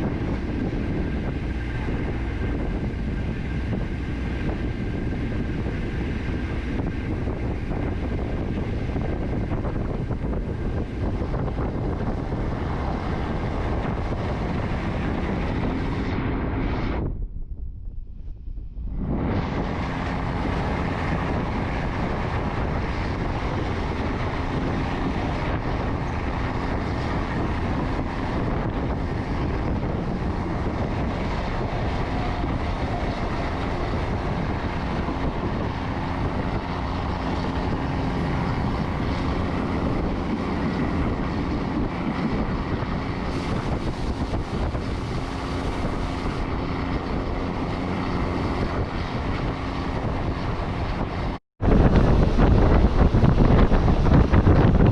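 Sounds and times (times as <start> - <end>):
passenger train running: 0.0 - 17.2, 18.2 - 54.9
wind rushing across microphone: 0.0 - 54.9.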